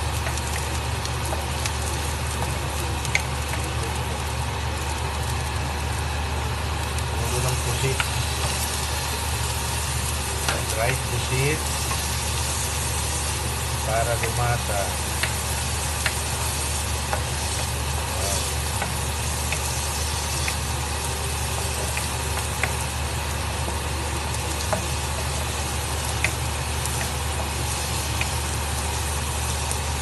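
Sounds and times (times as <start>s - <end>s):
squid sizzling in oil: 0.0s - 30.0s.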